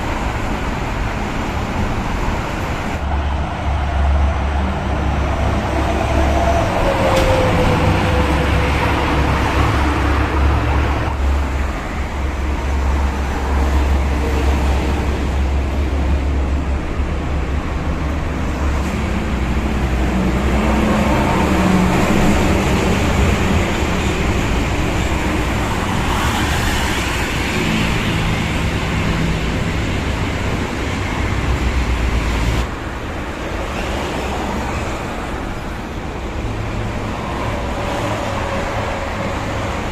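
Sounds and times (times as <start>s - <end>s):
fast traffic passing: 0.0s - 39.9s.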